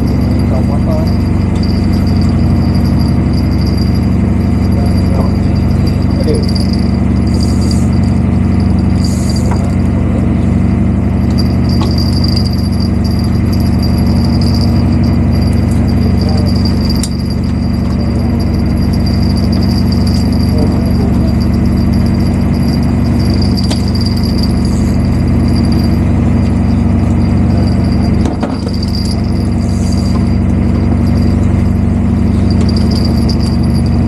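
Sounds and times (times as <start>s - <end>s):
boat engine running: 0.0s - 34.0s
high-pitched whine: 0.0s - 34.0s.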